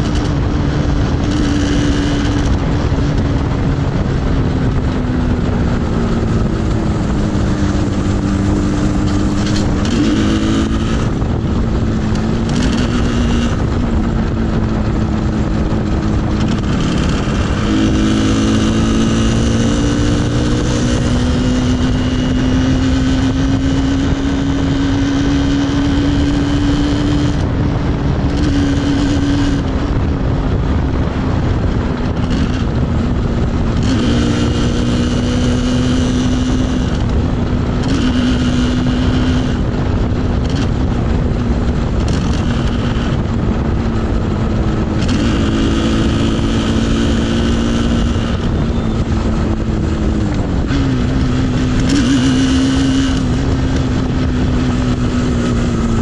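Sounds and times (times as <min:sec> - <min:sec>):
two-stroke motorcycle engine: 0:00.0 - 0:56.0
wind and road noise: 0:00.0 - 0:56.0.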